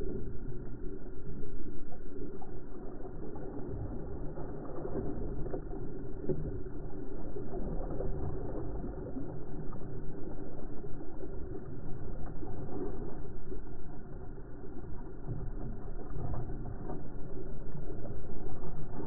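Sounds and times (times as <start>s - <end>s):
water rushing along hull: 0.0s - 19.0s.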